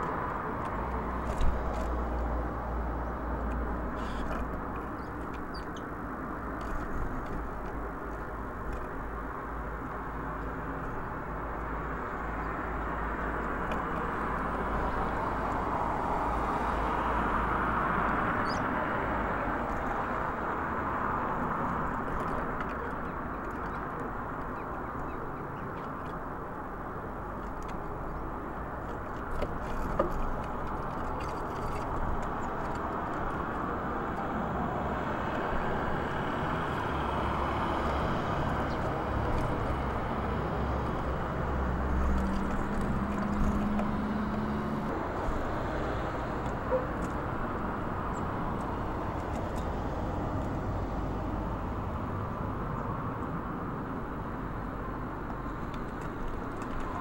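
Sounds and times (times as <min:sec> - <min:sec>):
distant road traffic: 0:00.0 - 0:57.0
passing vehicle hum: 0:00.0 - 0:57.0.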